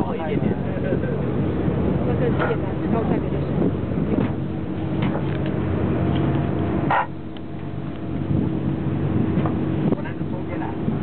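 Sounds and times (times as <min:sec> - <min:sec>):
boat engine humming: 0:00.0 - 0:11.0
rush of boat through water: 0:00.0 - 0:11.0.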